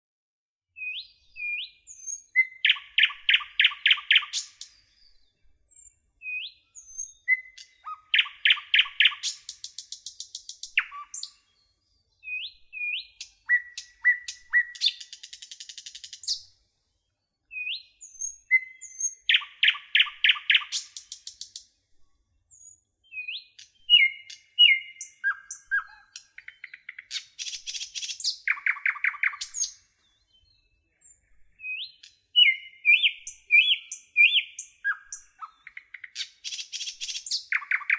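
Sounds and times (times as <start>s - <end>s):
songbird chirping and trilling: 0.7s - 37.9s.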